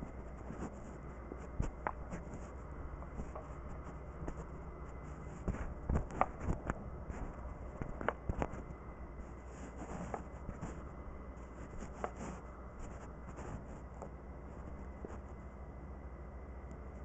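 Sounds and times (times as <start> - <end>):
clothing rubbing on microphone: 0.0 - 15.4
low hum: 0.0 - 17.0.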